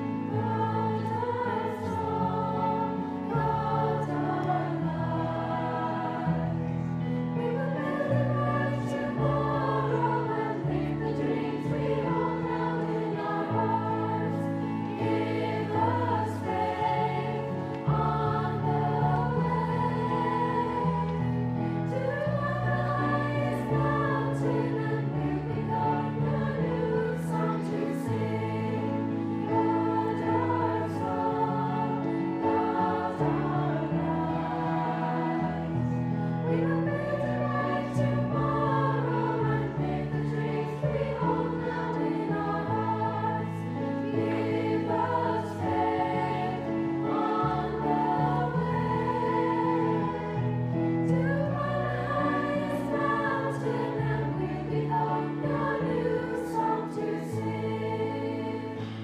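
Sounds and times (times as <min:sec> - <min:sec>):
girls' choir singing: 0:00.0 - 0:59.0.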